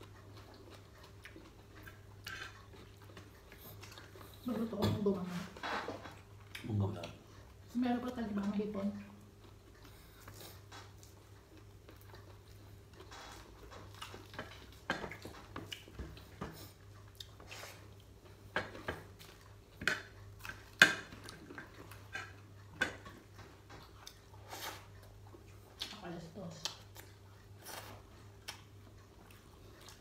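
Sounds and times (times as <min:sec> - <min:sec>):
chewing crunchy fried chicken: 0:00.0 - 0:04.5, 0:06.0 - 0:07.8, 0:08.8 - 0:30.0.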